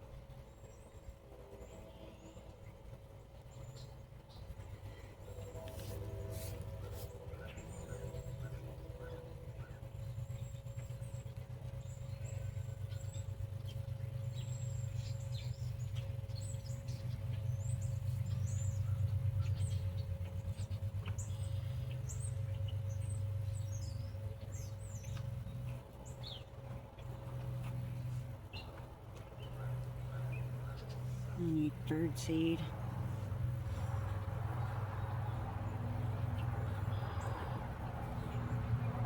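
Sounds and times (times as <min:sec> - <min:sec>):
steady low hum: 0:00.0 - 0:39.0
small birds chirping: 0:07.3 - 0:39.0.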